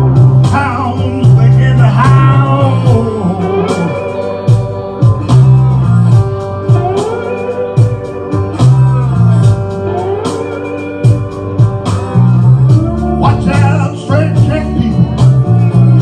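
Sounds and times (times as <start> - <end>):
blues band playing: 0.0 - 16.0
lead guitar bending notes: 0.0 - 16.0
repeating bass line: 0.0 - 16.0.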